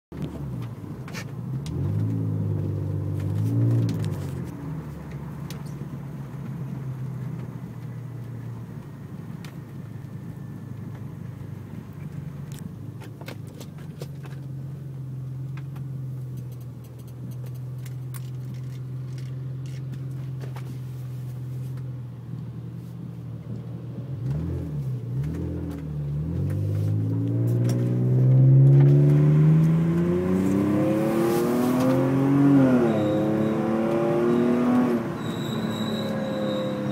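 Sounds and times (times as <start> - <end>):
car engine idling and revving: 0.1 - 36.9.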